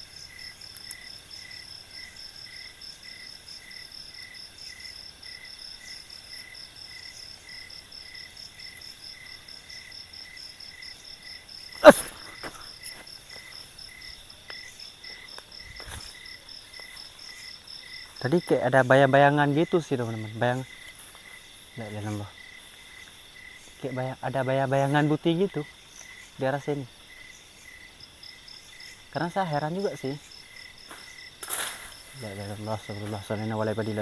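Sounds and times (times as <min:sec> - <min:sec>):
night insects chirping: 0:00.0 - 0:34.0.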